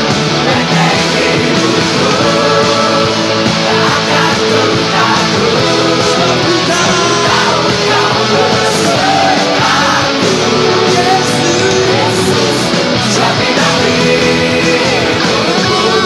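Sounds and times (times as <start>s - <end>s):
lead guitar melody: 0.0s - 16.0s
rock band backing track: 0.0s - 16.0s.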